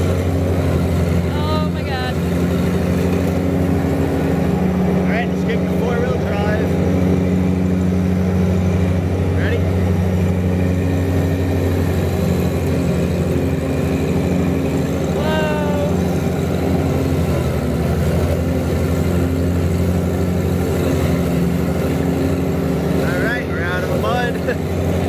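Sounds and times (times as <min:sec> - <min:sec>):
lawn tractor engine running: 0:00.0 - 0:25.0.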